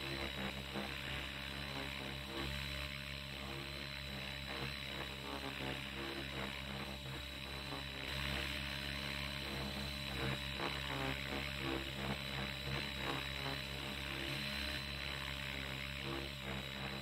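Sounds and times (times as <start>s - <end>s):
rc helicopter rotor and motor hum: 0.0s - 17.0s.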